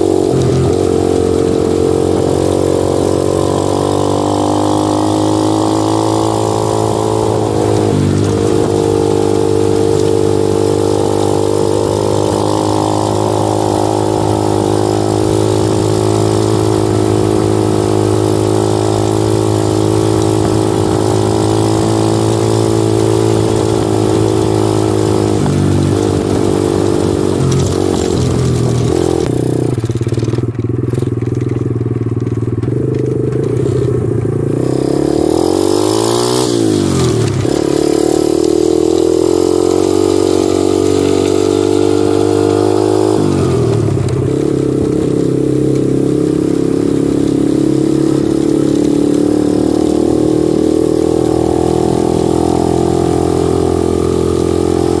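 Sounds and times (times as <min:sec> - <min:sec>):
small motorcycle engine running: 0:00.0 - 0:55.0.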